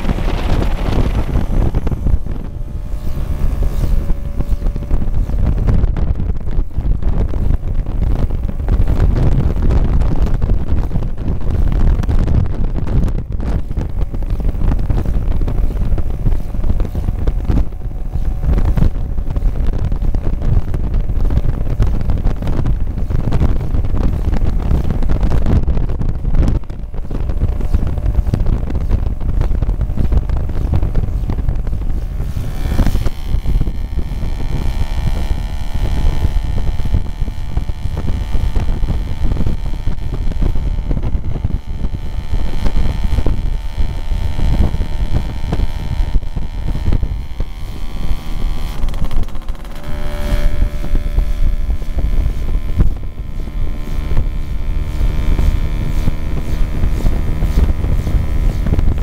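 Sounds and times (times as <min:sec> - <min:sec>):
scooter engine running: 0:00.0 - 0:59.0
wind buffeting microphone: 0:00.0 - 0:59.0.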